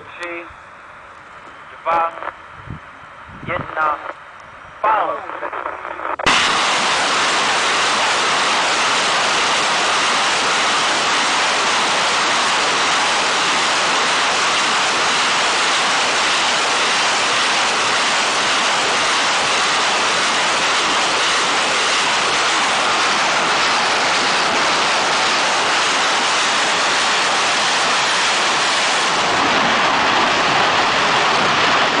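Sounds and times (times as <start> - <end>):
rocket launches rushing roar: 6.2 - 32.0.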